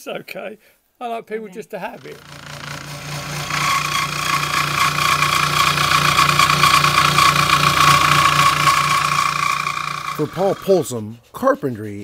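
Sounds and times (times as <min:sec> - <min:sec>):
scroll saw cutting wood: 0:01.9 - 0:12.0.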